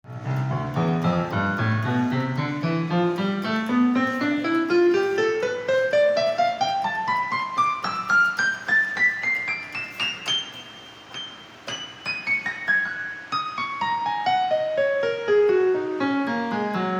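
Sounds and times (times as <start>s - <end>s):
electronic keyboard piano notes: 0.0s - 16.9s.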